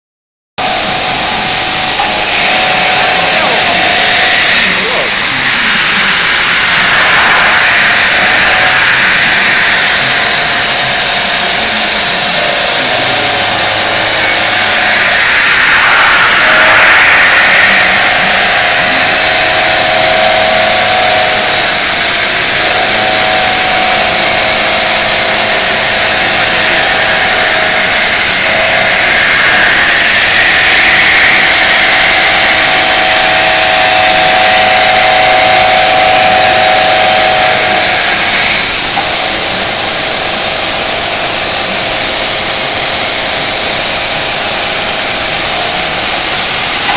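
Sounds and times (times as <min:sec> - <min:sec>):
milling machine cutting metal: 0:00.6 - 0:46.9.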